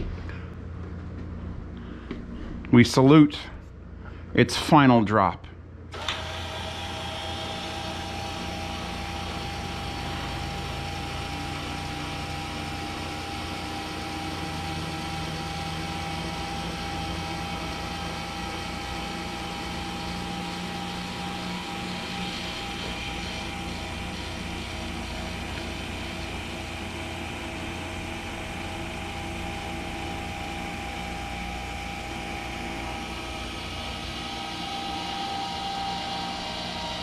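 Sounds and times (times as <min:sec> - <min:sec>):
projection screen motor humming: 0:05.8 - 0:37.0.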